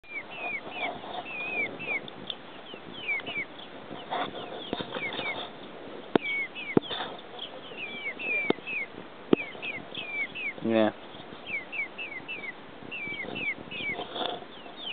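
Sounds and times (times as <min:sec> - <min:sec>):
chicks peeping: 0:00.0 - 0:14.9.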